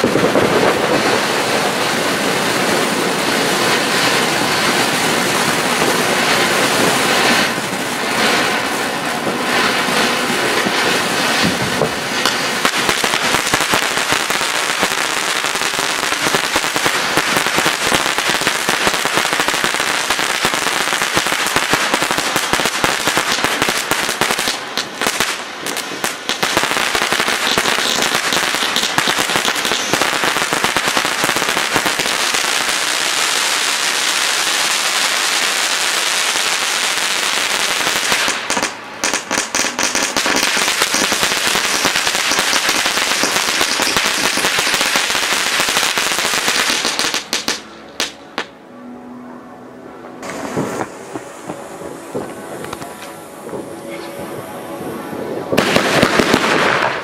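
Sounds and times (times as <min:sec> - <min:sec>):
firework fountains hissing and crackling: 0:00.0 - 0:48.6, 0:50.0 - 0:57.0.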